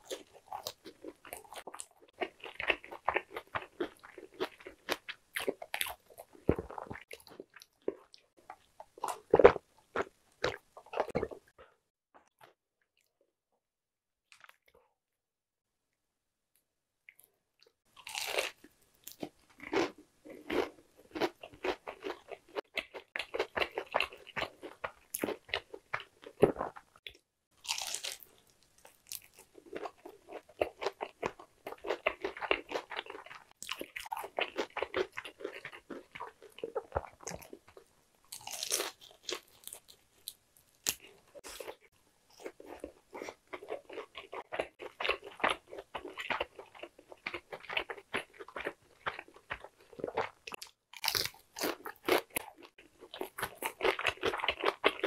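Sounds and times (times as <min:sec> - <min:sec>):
crunching and chewing fried chicken: 0:00.0 - 0:12.6, 0:17.9 - 0:55.0.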